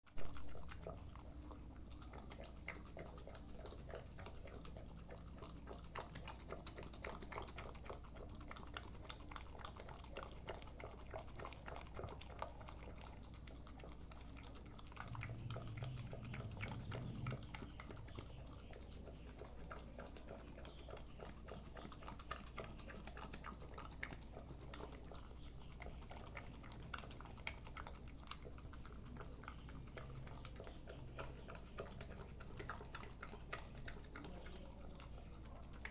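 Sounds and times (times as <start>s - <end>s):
puppy chewing and smacking: 0.0s - 35.9s.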